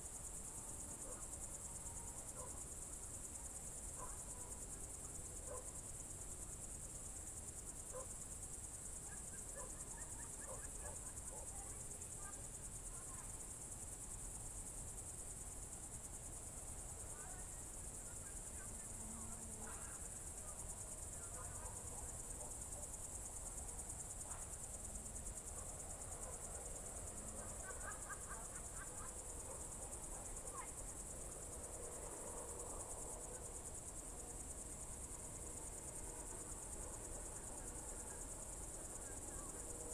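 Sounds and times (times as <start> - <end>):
crickets trilling: 7.7 - 39.9.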